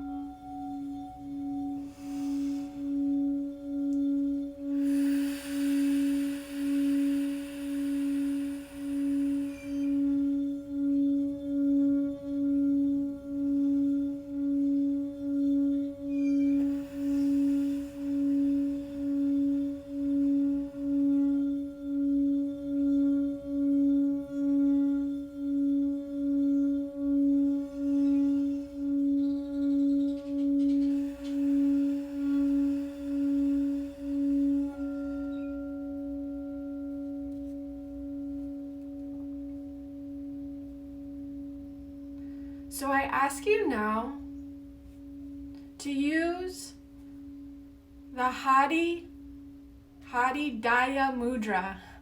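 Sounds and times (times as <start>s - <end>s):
singing bowl low tone: 0.0s - 52.0s.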